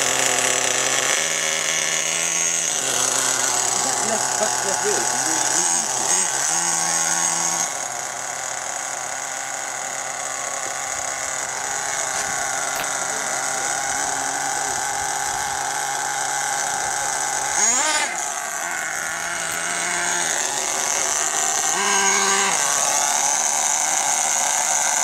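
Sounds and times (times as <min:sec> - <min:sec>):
small engine idling and revving: 0:00.0 - 0:25.0.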